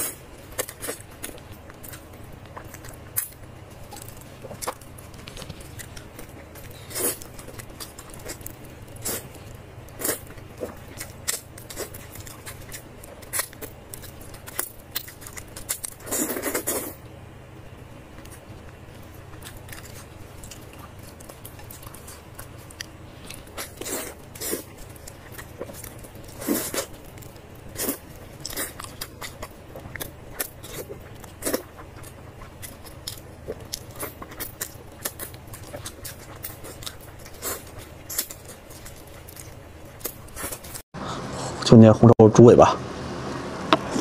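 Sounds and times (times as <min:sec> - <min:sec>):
mouth clicks and chewing crunches: 0:00.0 - 0:17.0, 0:18.1 - 0:40.8
steady low hum: 0:00.0 - 0:44.0.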